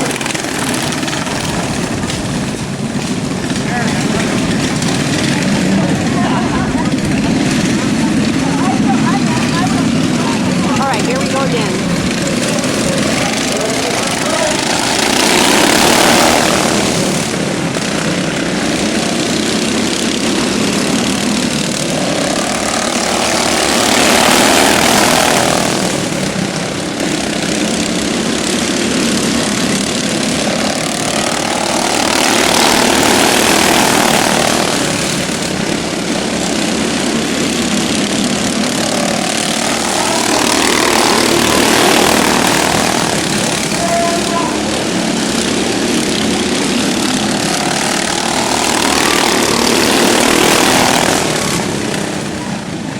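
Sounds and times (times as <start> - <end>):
racing lawn mower engines: 0.0 - 52.9.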